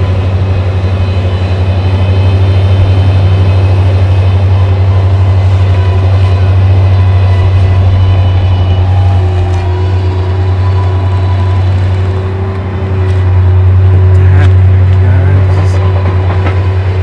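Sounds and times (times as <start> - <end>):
engine droning loudly: 0.0 - 17.0
faint whine tones: 0.0 - 17.0.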